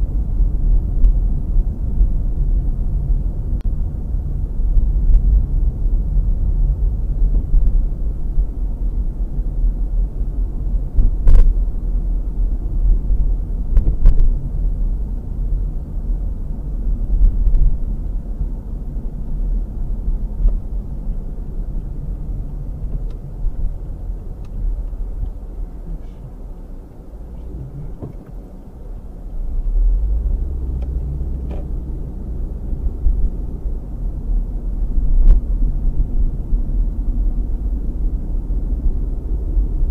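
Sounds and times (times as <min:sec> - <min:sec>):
engine and road noise rumble: 0:00.0 - 0:39.9.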